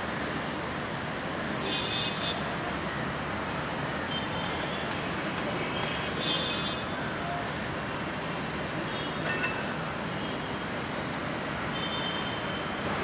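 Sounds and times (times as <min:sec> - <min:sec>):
background traffic noise: 0:00.0 - 0:13.0.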